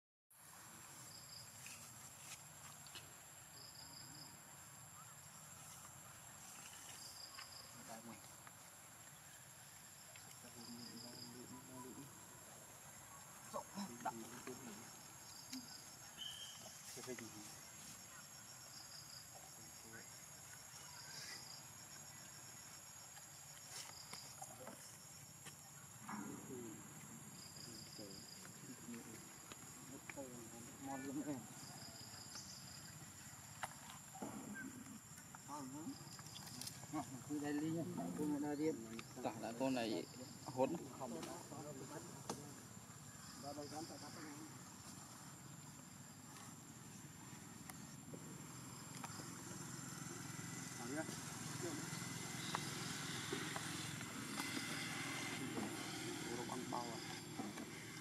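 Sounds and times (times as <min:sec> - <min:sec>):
insects chirping in trills: 0:00.4 - 0:58.0.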